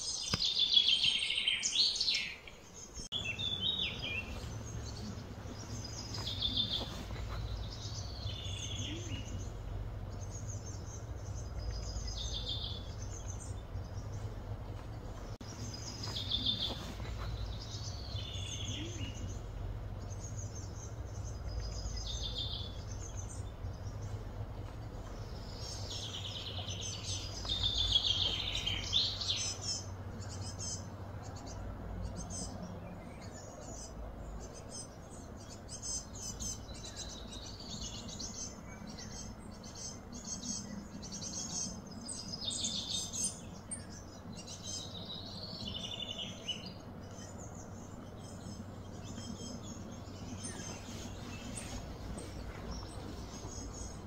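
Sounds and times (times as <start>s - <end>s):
low outdoor rumble: 0.0s - 54.0s
songbirds singing: 0.0s - 54.0s.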